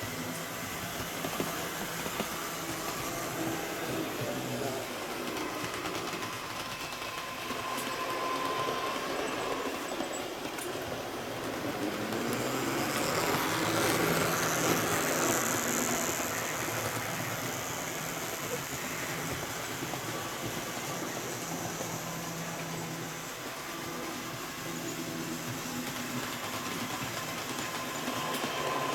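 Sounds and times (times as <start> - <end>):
model train motor whirr: 0.0 - 28.9
model train wheel rumble: 0.0 - 28.9.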